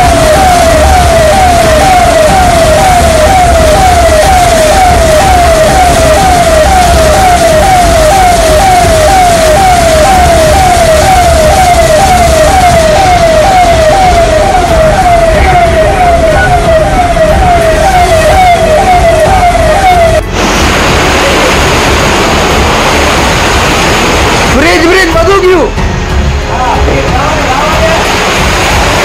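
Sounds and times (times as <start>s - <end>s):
electronic siren falling tone: 0.0s - 25.7s
heavy rain rushing: 0.0s - 29.0s.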